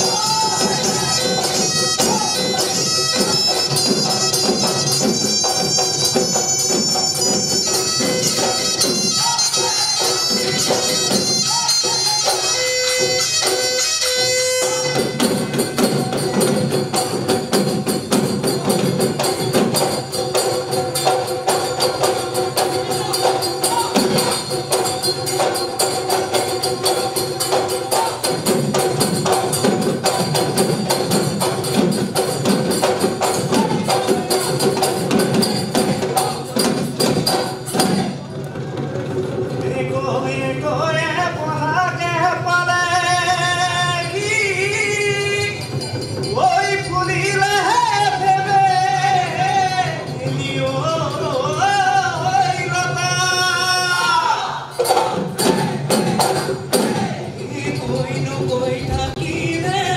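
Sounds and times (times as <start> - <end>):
jingling percussion: 0.0 - 39.7, 43.3 - 59.9
drums playing fast rhythm: 0.0 - 59.9.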